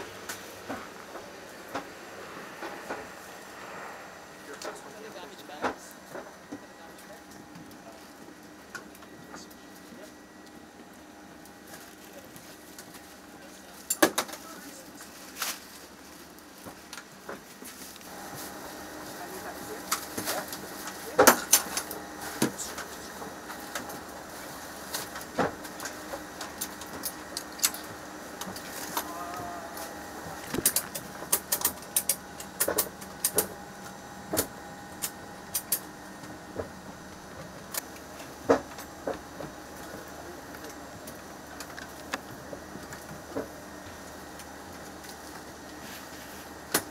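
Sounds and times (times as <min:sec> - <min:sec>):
aircraft cargo hold hum: 0:00.0 - 0:46.9.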